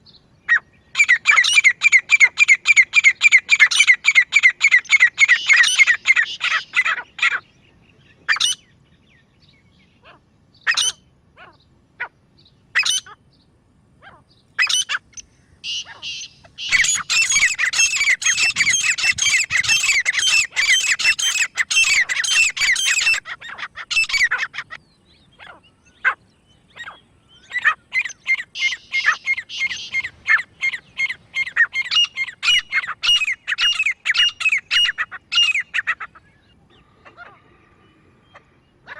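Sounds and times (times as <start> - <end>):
francolins calling: 0.0 - 38.9.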